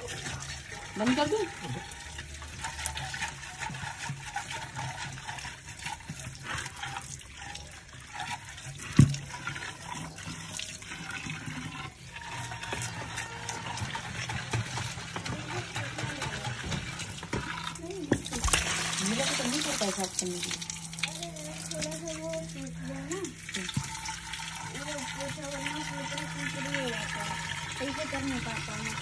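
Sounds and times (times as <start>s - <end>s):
hand scrubbing inside pot: 0.0s - 29.0s
tap water pouring into clay pot: 0.0s - 29.0s.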